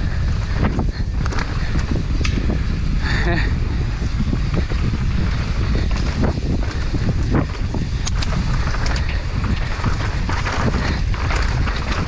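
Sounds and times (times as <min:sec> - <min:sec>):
bike knocks and rattles: 0:00.0 - 0:12.0
tyres rolling on dirt: 0:00.0 - 0:12.0
wind buffeting microphone: 0:00.0 - 0:12.0.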